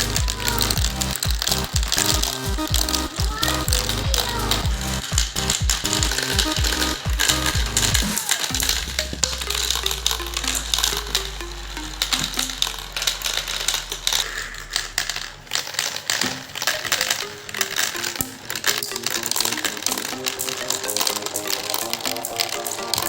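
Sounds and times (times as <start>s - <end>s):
plucked background music: 0.0s - 14.3s, 15.9s - 23.0s
marbles clicking and clattering: 0.0s - 23.0s.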